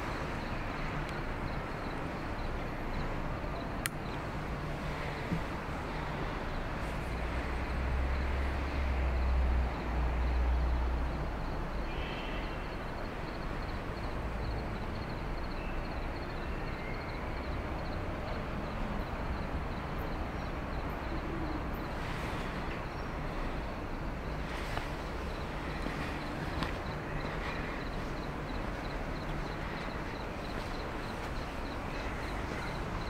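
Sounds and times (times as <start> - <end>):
street ambience noise: 0.0 - 33.0.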